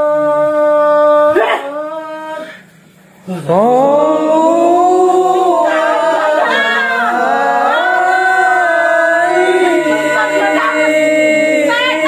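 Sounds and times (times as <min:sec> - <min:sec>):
woman singing wordless wail: 0:00.0 - 0:02.6, 0:03.4 - 0:12.0.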